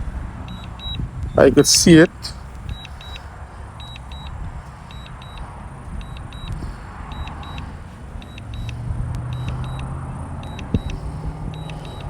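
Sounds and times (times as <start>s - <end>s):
wind buffeting microphone: 0.0s - 12.0s
short high beeps: 0.5s - 3.2s, 3.8s - 12.0s.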